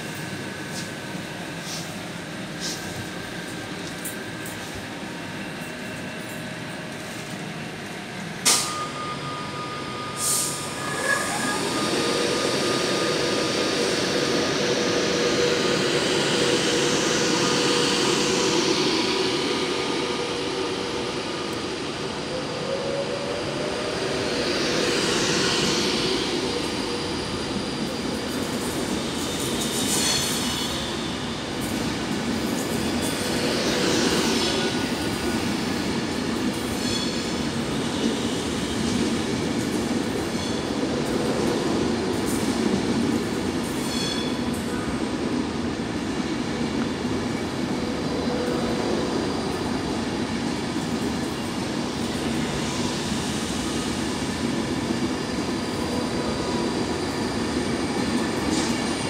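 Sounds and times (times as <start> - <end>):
electric train whine: 0.0 - 59.0.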